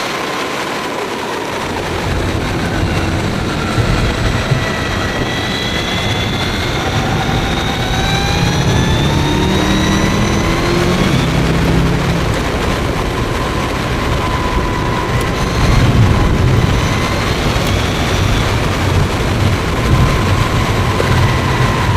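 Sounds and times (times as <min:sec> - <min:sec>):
wind rush on microphone: 0:00.0 - 0:21.9
electric motor whining: 0:00.3 - 0:21.9.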